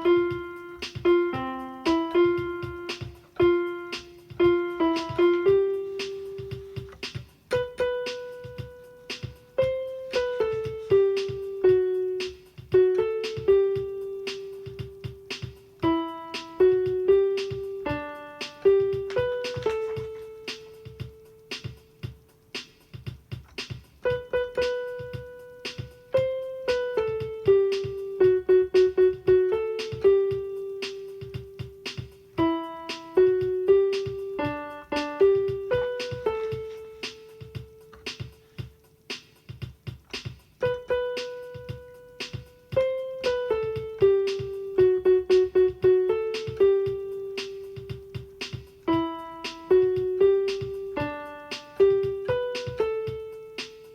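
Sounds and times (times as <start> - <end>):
piano melody: 0.0 - 53.9
soft low accompaniment: 0.0 - 53.9.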